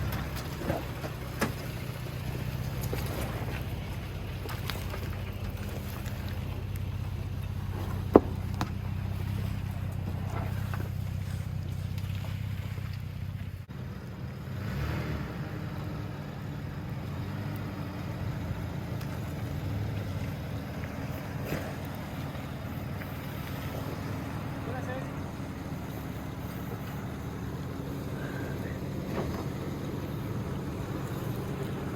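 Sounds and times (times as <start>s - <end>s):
road noise: 0.0s - 31.9s
vehicle engine droning: 0.0s - 31.9s.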